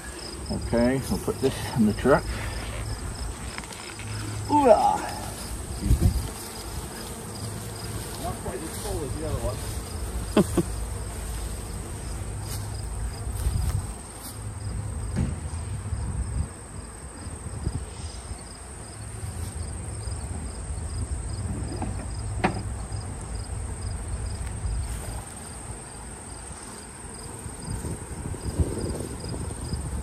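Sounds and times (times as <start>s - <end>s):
insect chirping: 0.0s - 8.1s, 9.1s - 15.2s, 16.0s - 30.0s
insects droning: 0.0s - 30.0s.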